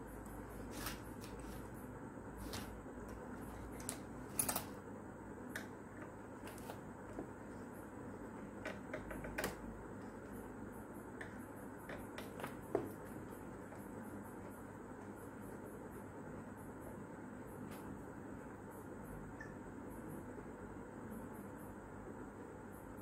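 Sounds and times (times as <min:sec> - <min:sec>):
low background noise: 0:00.0 - 0:23.0.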